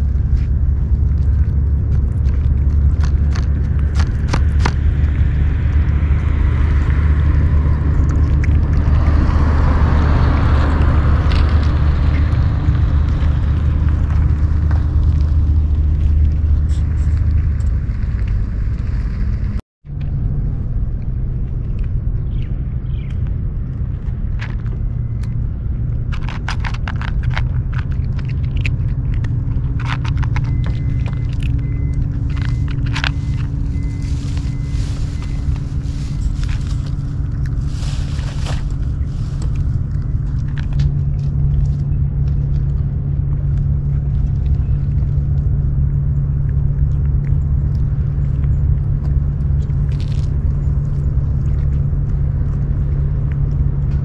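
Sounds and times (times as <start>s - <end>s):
cat chewing food: 0.0s - 17.8s, 23.1s - 54.0s
wind rumble on microphone: 0.0s - 54.0s.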